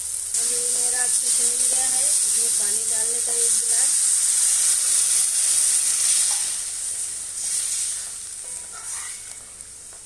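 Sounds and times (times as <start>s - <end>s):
spices sizzling in a pan: 0.0s - 10.0s.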